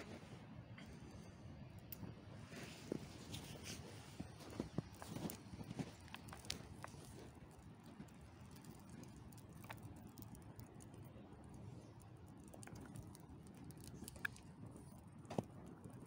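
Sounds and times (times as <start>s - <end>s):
burning cardboard crackling: 0.0s - 16.0s
low outdoor rumble: 0.0s - 16.0s
fire pops and clicks: 1.6s - 16.0s.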